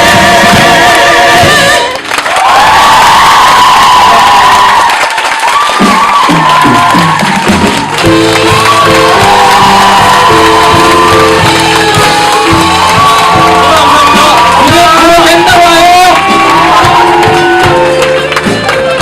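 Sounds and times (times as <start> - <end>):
stage musical music: 0.0 - 19.0
audience cheering: 0.8 - 19.0.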